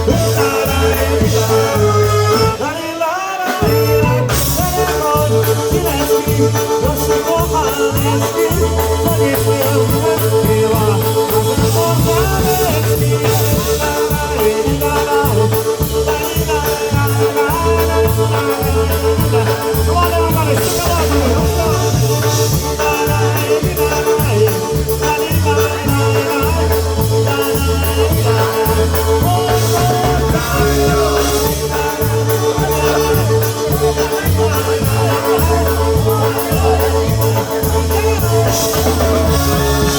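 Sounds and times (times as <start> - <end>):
polka band playing: 0.0 - 39.9.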